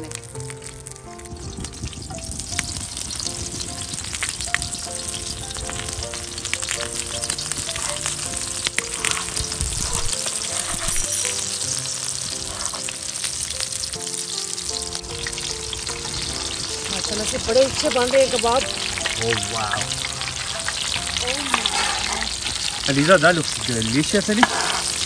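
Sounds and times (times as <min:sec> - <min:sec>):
meat sizzling on a griddle: 0:00.0 - 0:25.0.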